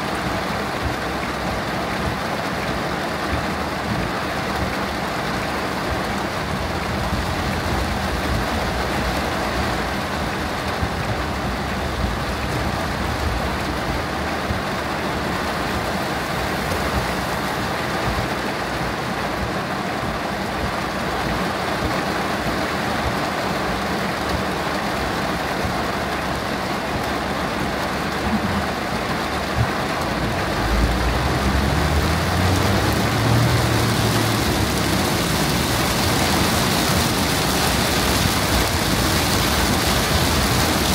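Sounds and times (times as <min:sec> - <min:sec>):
rain drumming on car roof: 0:00.0 - 0:40.9
road and engine hum: 0:00.0 - 0:40.9.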